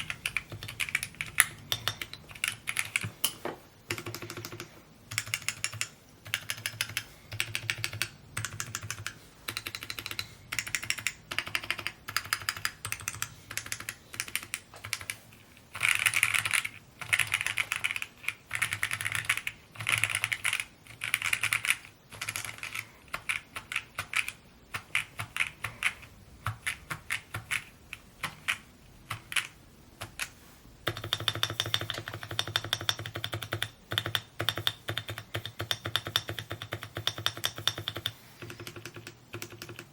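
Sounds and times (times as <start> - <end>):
mechanical keyboard typing: 0.0 - 3.2, 3.9 - 39.9.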